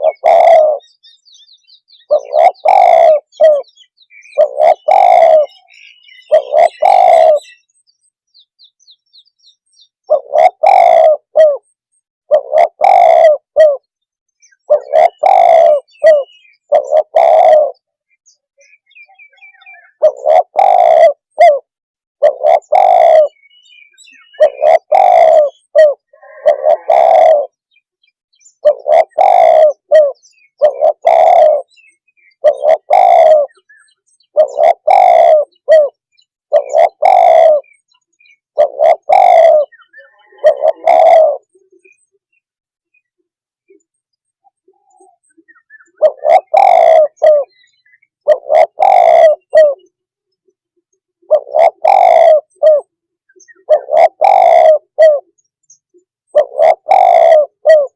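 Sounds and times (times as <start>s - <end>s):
dove cooing: 0.0s - 7.7s, 10.0s - 27.6s, 28.5s - 42.2s, 44.4s - 50.0s, 51.2s - 55.4s, 56.0s - 57.9s
faint small bird chirps: 0.0s - 10.8s, 13.7s - 21.6s, 22.2s - 57.9s.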